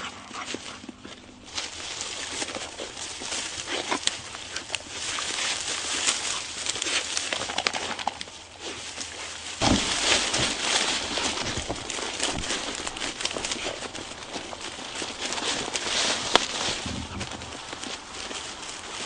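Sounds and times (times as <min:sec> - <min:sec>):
rustling in dry vegetation: 0:00.0 - 0:19.0.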